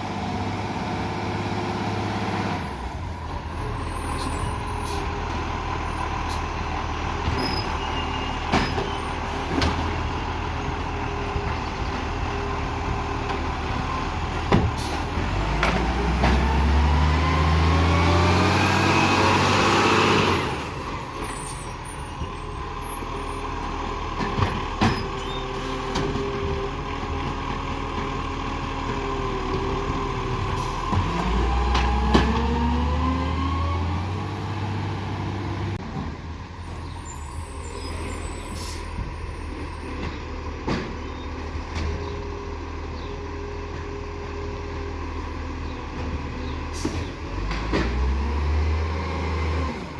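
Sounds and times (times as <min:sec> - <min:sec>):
diesel engine idling and revving: 0:00.0 - 0:49.9.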